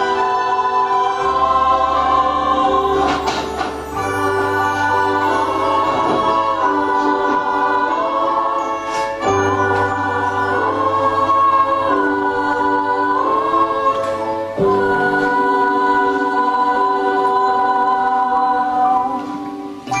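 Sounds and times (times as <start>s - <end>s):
choir-like held chords: 0.0s - 20.0s.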